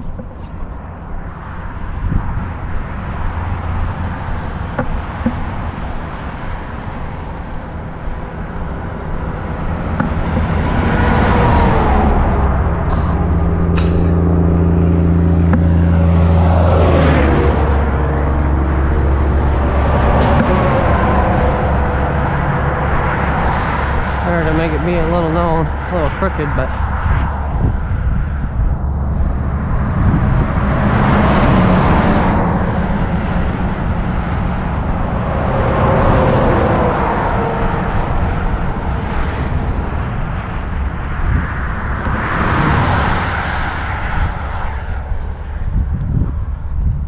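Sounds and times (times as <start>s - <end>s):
highway traffic rumble: 0.0s - 47.0s
truck passing close by: 0.0s - 47.0s.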